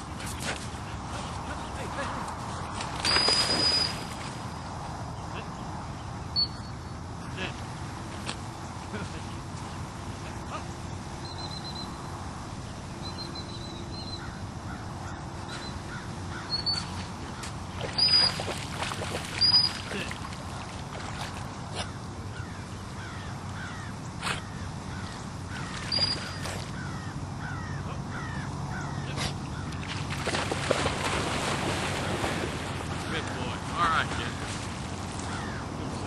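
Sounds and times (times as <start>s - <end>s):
birds calling: 0.0s - 36.0s.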